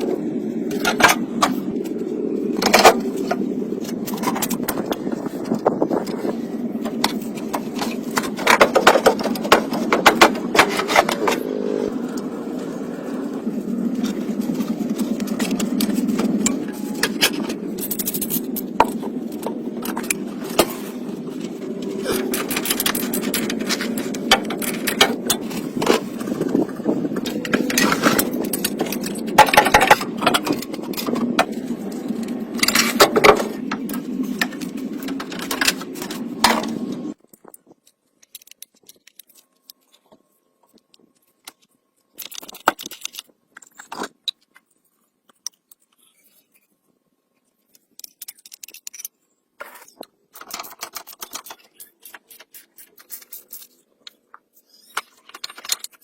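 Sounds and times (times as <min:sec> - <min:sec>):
metallic clatter and scrapes: 0:00.0 - 0:46.7, 0:47.7 - 0:56.0.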